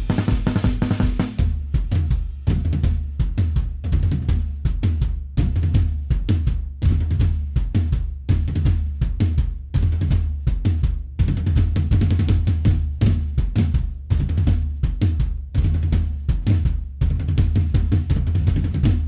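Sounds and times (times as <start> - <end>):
drum-driven background music: 0.0 - 19.0.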